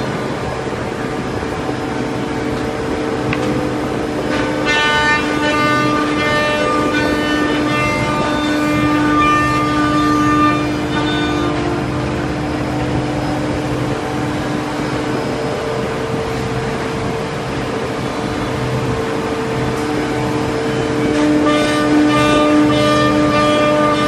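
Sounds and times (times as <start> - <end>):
woodshop machine noise: 0.0 - 17.7, 19.1 - 24.0.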